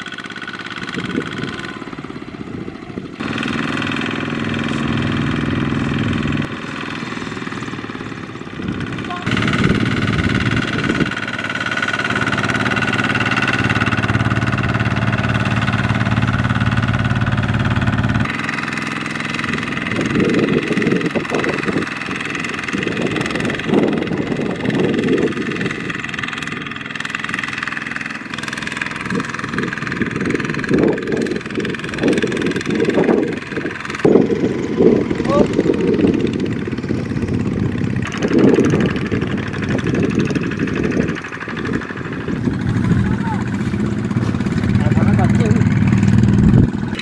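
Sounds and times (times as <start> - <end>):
diesel tractor engines running: 0.0 - 47.0.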